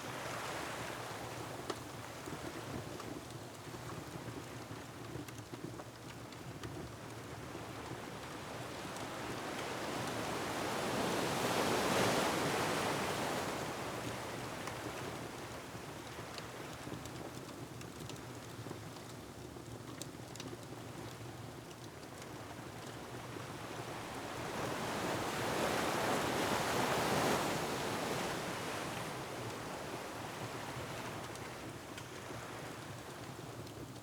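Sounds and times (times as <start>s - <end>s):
faint wood fire crackles: 0.0s - 34.0s.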